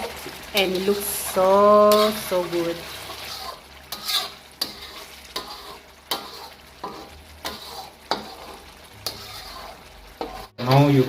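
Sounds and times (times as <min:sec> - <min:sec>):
food sizzling: 0:00.0 - 0:11.0
spatula scraping a pan: 0:00.7 - 0:11.0.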